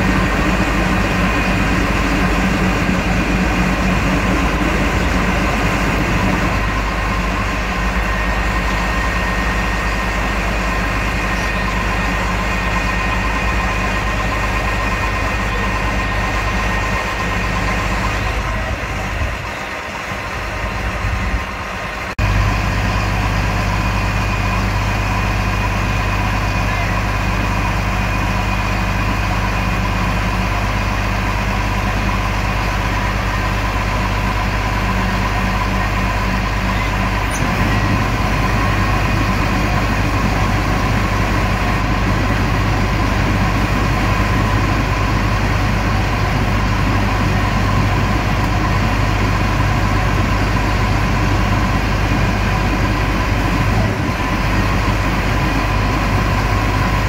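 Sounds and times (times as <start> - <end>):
diesel truck engine idling: 0.0 - 57.0
steady whine: 0.0 - 57.0.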